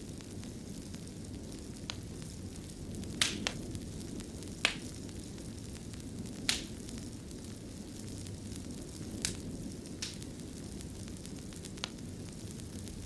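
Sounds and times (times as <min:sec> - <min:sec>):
wood fire crackling: 0:00.0 - 0:13.0
sharp pops from burning logs: 0:01.3 - 0:13.0.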